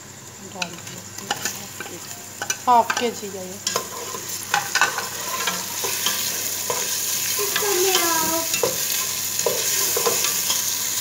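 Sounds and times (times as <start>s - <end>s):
chicken and onions sizzling in oil: 0.0s - 11.0s
spatula scraping and tapping pot: 0.6s - 10.9s.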